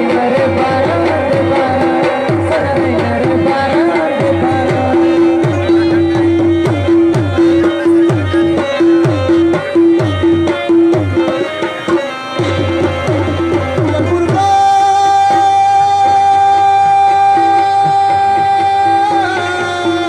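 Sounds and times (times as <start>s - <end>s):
hand drums playing: 0.0s - 20.0s
held instrument note: 0.0s - 20.0s.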